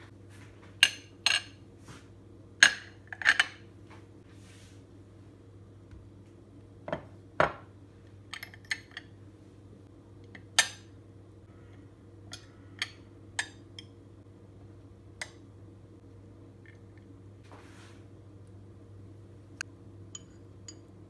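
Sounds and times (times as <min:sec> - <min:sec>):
faint low hum: 0:03.7 - 0:21.0.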